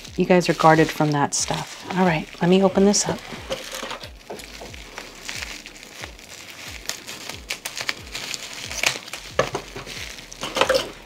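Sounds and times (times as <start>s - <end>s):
scissors cutting package: 0.0s - 11.0s
wrapping crinkling and rustling: 0.0s - 11.0s.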